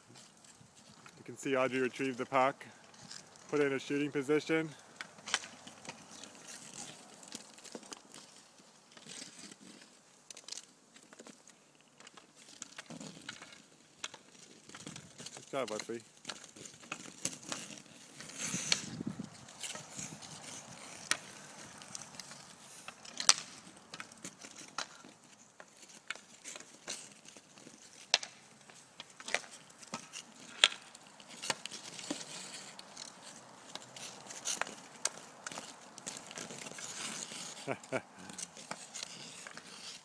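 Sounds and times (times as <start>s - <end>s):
hockey stick clacking on pucks: 0.1s - 40.0s
stick scraping on ice: 0.1s - 40.0s.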